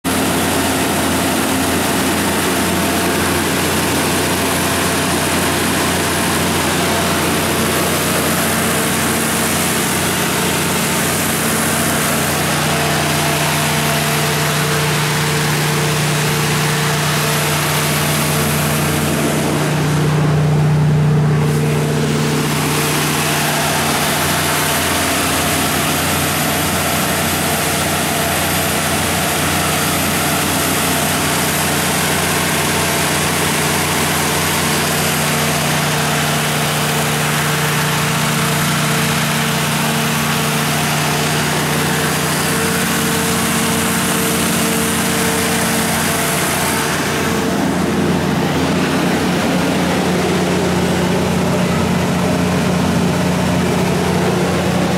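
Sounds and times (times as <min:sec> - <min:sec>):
generator engine humming: 0:00.0 - 0:54.9.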